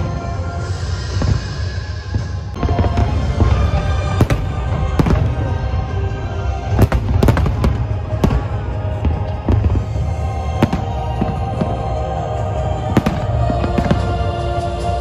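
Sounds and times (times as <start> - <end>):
fireworks bursting with bangs: 0.0 - 15.0
music playing: 0.0 - 15.0.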